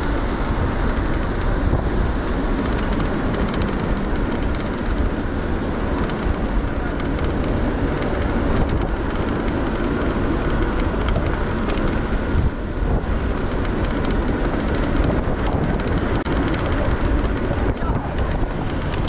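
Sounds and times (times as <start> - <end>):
road and engine noise: 0.0 - 19.0
wind on microphone: 0.0 - 19.0.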